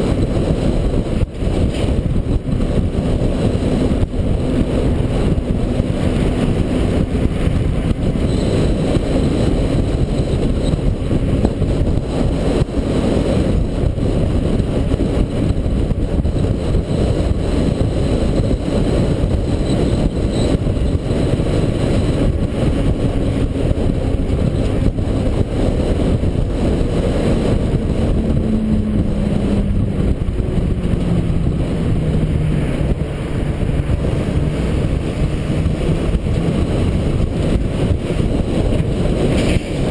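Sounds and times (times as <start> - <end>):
diesel truck engine: 0.0 - 39.9
road rumble: 0.0 - 39.9
wind on microphone: 0.0 - 39.9.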